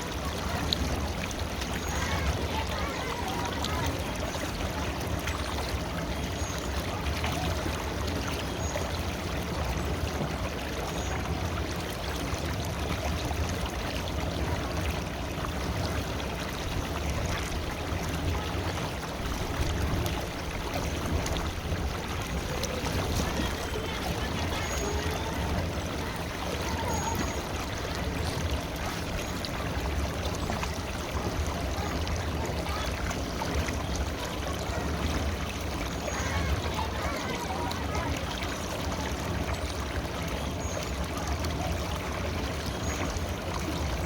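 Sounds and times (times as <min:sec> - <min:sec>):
river water flowing: 0:00.0 - 0:44.0.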